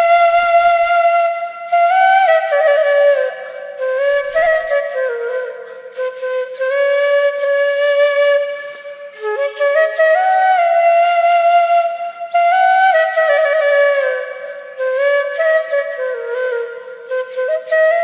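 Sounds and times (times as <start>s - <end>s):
solo flute playing slow melody: 0.0s - 18.0s.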